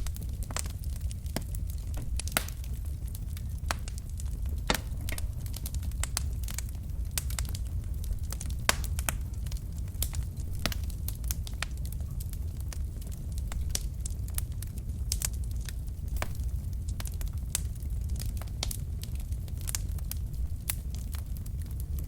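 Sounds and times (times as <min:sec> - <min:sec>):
logs crackling and popping: 0:00.0 - 0:22.0
low rumble of flames: 0:00.0 - 0:22.0.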